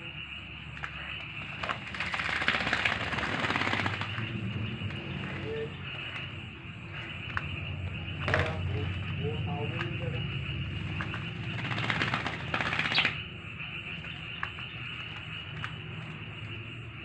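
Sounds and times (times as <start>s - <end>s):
wings fluttering: 0.0s - 17.0s
bird splashing in water: 0.7s - 17.0s.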